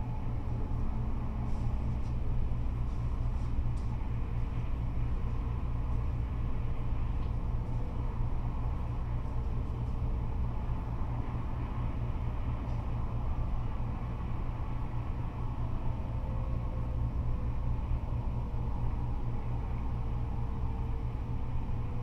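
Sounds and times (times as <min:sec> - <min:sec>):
freeway traffic rumble: 0:00.0 - 0:22.0.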